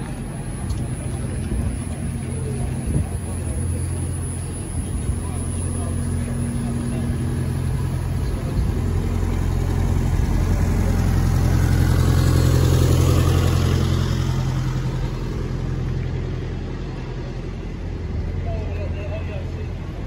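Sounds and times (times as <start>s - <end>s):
bus engine humming: 0.0s - 20.0s.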